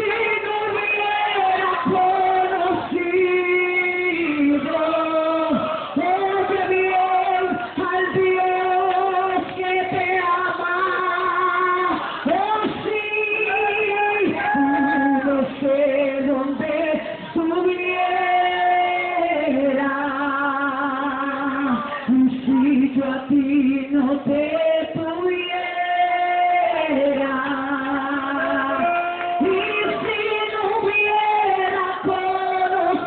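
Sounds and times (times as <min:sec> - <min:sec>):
woman singing into microphone: 0:00.0 - 0:33.0.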